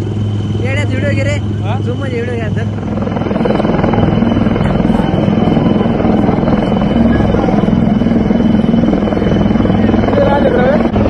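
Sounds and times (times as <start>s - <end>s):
helicopter engine hum: 0.0s - 11.0s
helicopter rotor chop: 0.0s - 11.0s.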